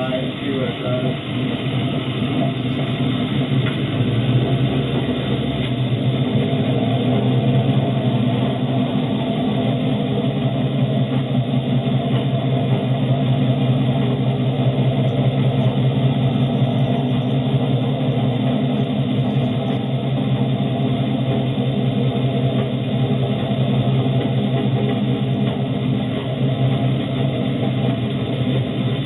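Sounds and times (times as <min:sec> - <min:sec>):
engine droning: 0:00.0 - 0:29.0.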